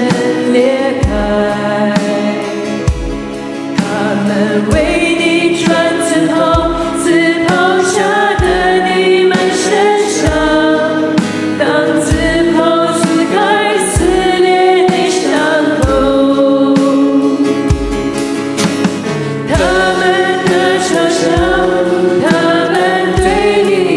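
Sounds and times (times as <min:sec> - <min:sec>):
low drum beat: 0:00.0 - 0:09.6, 0:10.2 - 0:23.8
choir singing over band: 0:00.0 - 0:18.5, 0:19.4 - 0:23.9.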